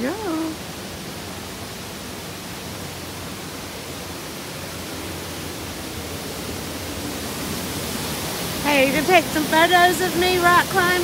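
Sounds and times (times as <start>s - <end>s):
waterfall and creek rushing: 0.0s - 11.0s.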